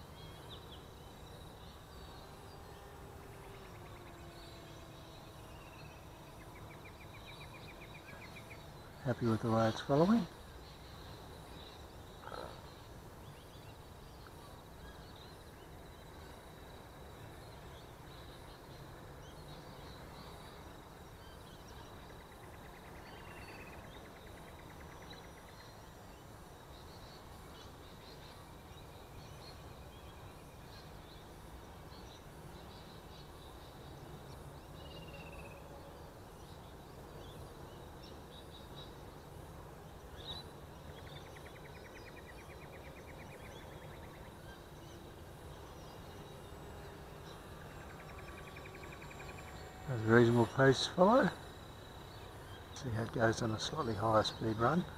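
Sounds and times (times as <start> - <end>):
faint bird chirps: 0.0 - 54.9
low background noise: 0.0 - 54.9.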